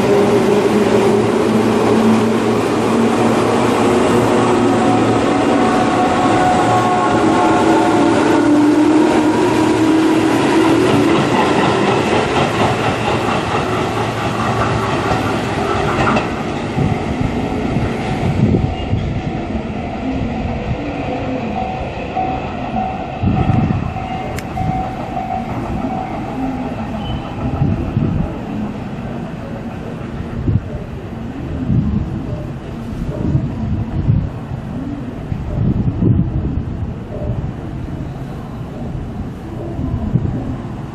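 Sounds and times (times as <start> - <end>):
wheel and rail noise: 0.0 - 40.9.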